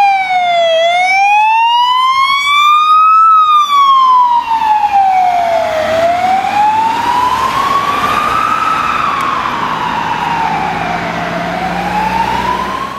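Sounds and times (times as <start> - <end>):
ambulance siren wailing: 0.0 - 12.9.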